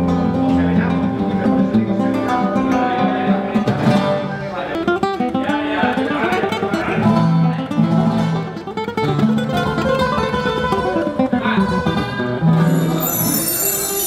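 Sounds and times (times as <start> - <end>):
nylon-string guitar plucking and strumming: 0.0 - 14.0.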